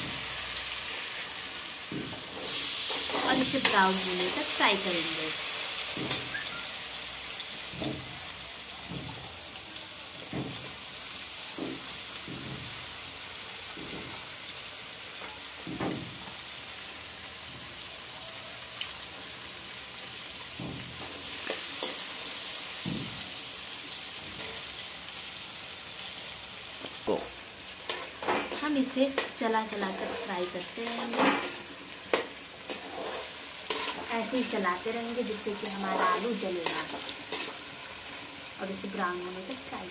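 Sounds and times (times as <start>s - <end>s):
potatoes sizzling in butter: 0.0s - 39.9s.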